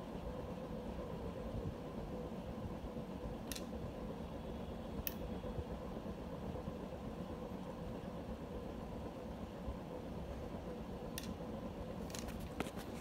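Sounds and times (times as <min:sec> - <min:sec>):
ceiling fan whirring: 0:00.0 - 0:13.0.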